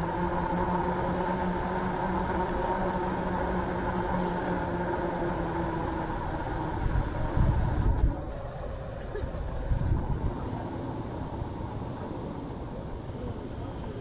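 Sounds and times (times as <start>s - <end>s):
motor vehicles humming: 0.0s - 14.0s.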